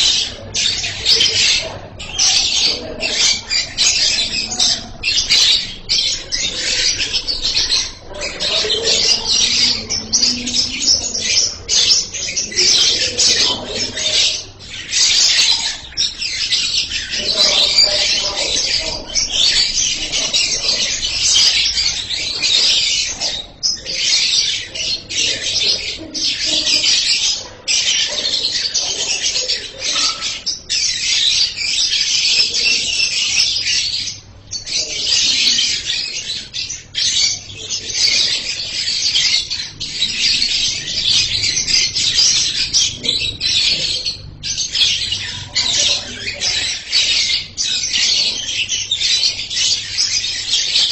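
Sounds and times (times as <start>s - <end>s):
lovebird chattering: 0.0s - 50.9s.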